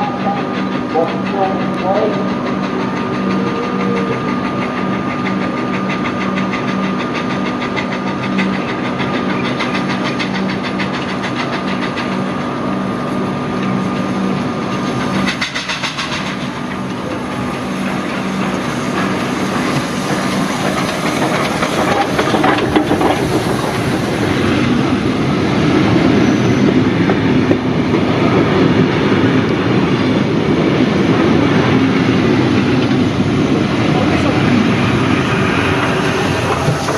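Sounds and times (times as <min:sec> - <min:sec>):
train wheels clicking over rails: 0:00.0 - 0:36.9.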